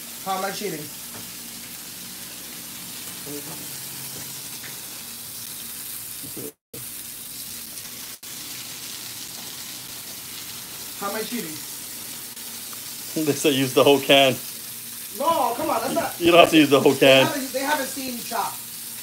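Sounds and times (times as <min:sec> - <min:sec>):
meat sizzling in a skillet: 0:00.0 - 0:19.0.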